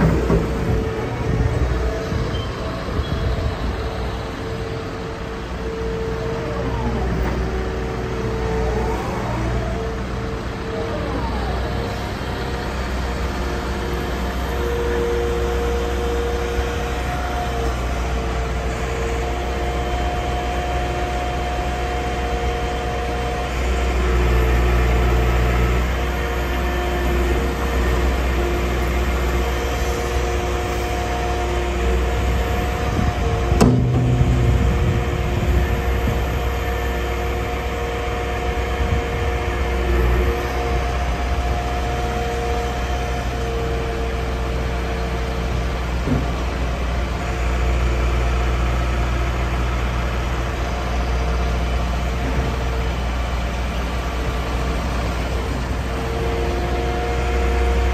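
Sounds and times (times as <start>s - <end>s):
excavator diesel engine running: 0.0s - 57.9s
hydraulic whine: 0.0s - 57.9s.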